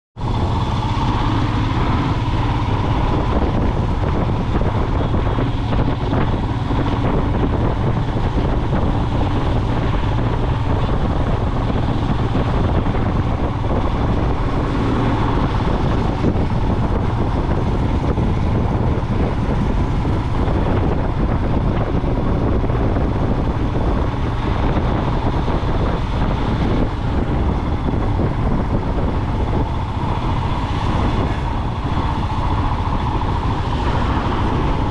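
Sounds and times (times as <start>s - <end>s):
motorcycle engine running: 0.2s - 34.9s
wind noise on microphone: 0.2s - 34.9s.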